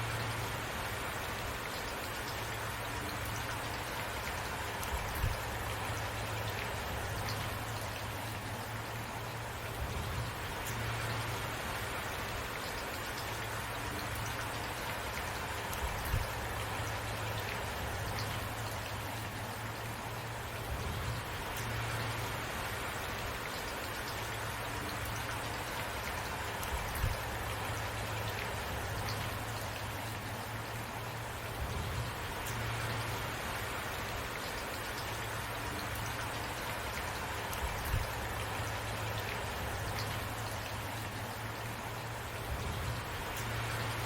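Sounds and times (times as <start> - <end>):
steady rainfall: 0.0 - 44.0.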